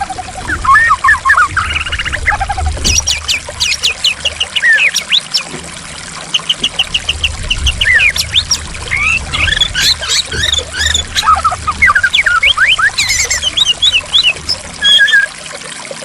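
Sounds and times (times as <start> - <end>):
bird singing varied song: 0.0 - 5.6, 6.2 - 15.4
flowing water rushing: 0.0 - 16.0.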